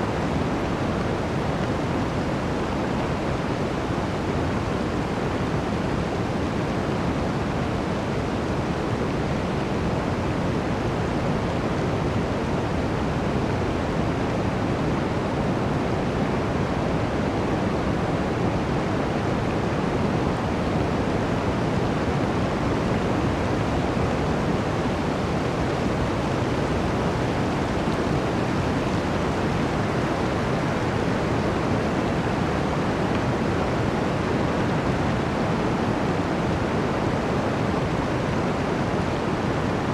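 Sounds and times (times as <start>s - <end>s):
blizzard wind through forest: 0.0s - 39.9s.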